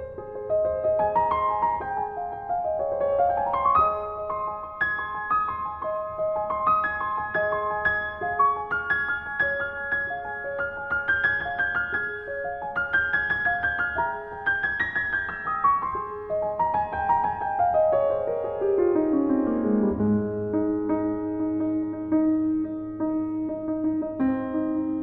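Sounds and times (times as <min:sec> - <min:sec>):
solo grand piano: 0:00.0 - 0:25.0.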